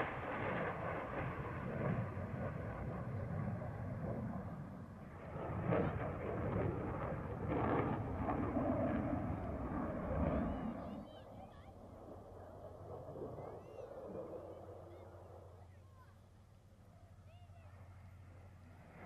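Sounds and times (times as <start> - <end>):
jet engine rumble: 0.0 - 16.8.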